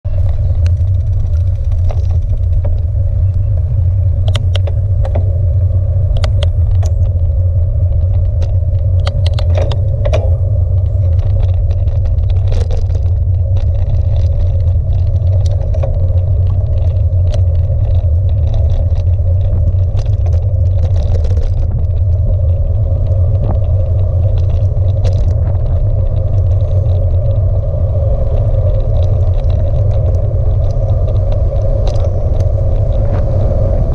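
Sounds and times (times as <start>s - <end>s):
bicycle ticks and rattles: 0.0s - 33.9s
tyres on tarmac: 0.0s - 33.9s
wind rumble: 0.0s - 33.9s.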